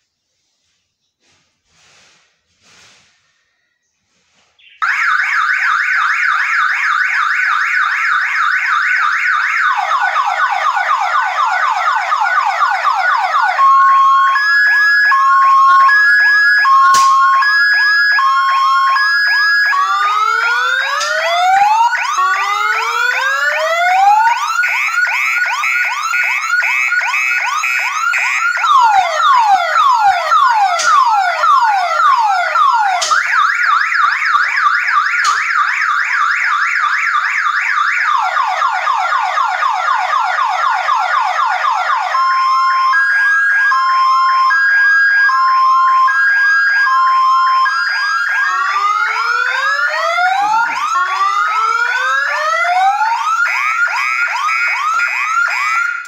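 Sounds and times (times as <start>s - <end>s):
security alarm siren: 3.3s - 56.0s.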